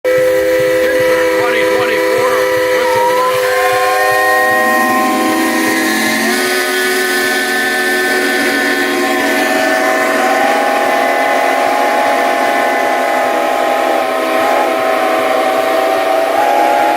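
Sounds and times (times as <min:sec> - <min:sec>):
steam hiss: 0:00.1 - 0:16.9
steam whistles chord: 0:00.1 - 0:16.9.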